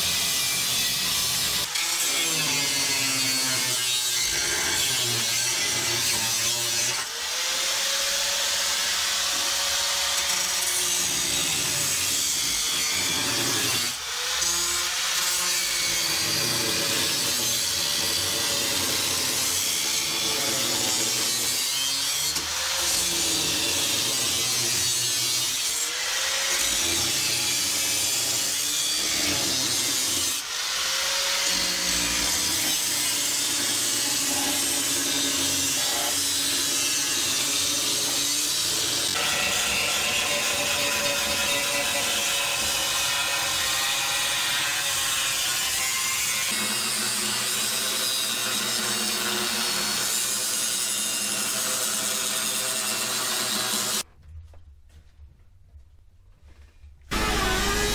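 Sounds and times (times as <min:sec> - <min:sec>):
angle grinder cutting steel: 0:00.0 - 0:54.1, 0:57.1 - 0:57.9.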